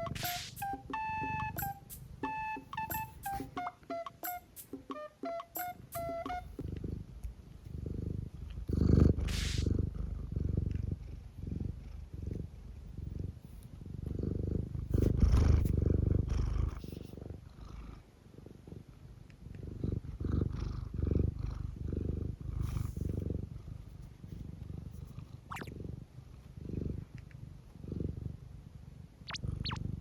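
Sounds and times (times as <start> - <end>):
cat purring: 0.0 - 3.6, 5.8 - 30.0.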